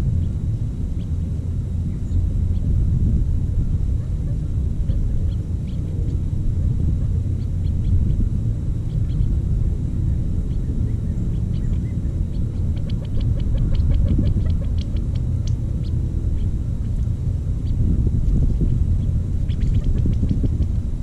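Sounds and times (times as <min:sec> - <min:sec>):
low steady rumble: 0:00.0 - 0:21.0
doves pecking seed: 0:01.8 - 0:21.0.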